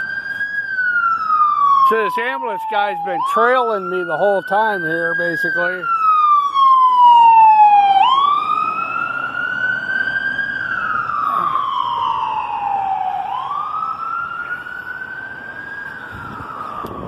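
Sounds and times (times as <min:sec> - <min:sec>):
ambulance siren wailing: 0:00.0 - 0:17.0.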